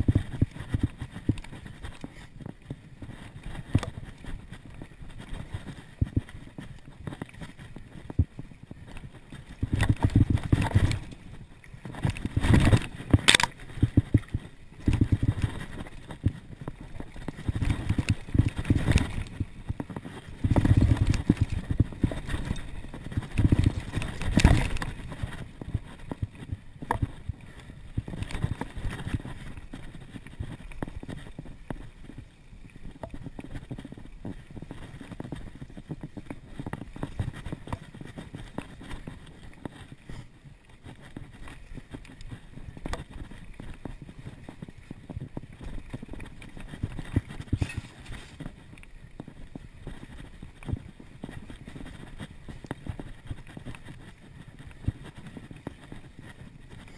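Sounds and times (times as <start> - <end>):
bike tyres rumbling over dirt: 0.0 - 56.9.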